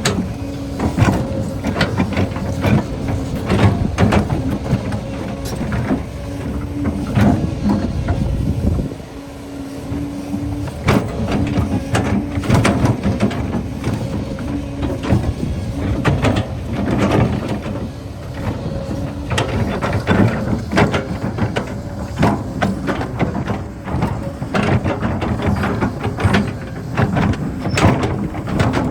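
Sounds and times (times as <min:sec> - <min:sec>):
excavator diesel engine: 0:00.0 - 0:28.9.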